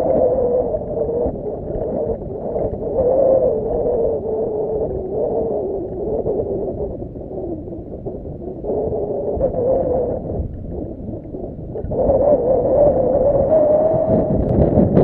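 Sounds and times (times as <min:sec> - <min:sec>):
water noise: 0:00.0 - 0:15.0
wind noise: 0:00.0 - 0:15.0.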